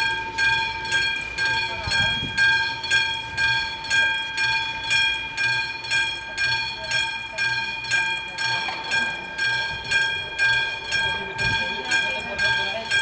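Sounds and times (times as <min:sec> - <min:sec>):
level crossing warning bells ringing: 0:00.0 - 0:13.0.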